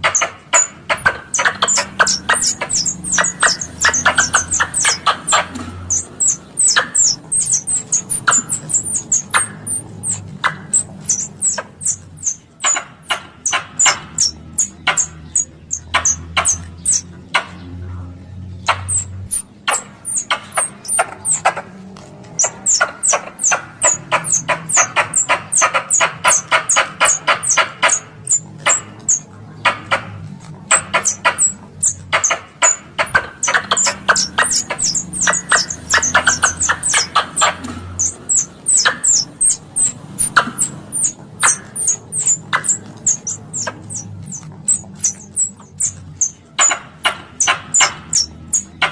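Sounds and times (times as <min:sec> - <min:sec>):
high downswept squeaks: 0:00.0 - 0:17.8, 0:18.5 - 0:48.9
squirrel chips and chattering: 0:00.0 - 0:48.9.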